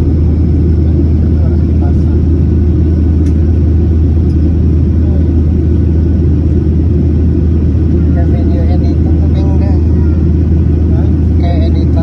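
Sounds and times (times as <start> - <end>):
airliner cabin rumble in flight: 0.0 - 12.0.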